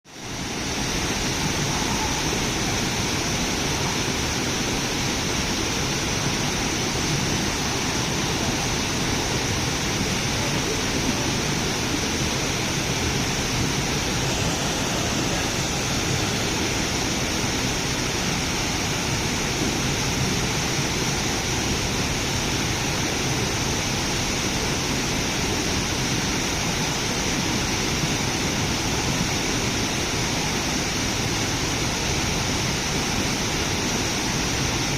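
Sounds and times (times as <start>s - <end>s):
steady rushing noise: 0.1s - 34.9s.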